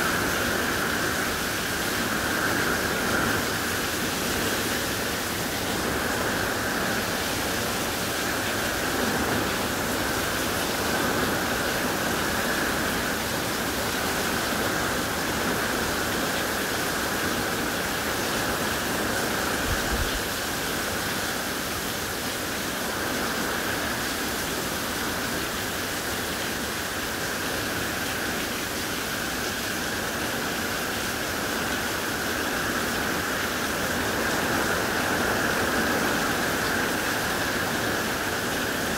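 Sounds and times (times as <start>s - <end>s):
heavy rain on grass and trees: 0.0s - 38.9s.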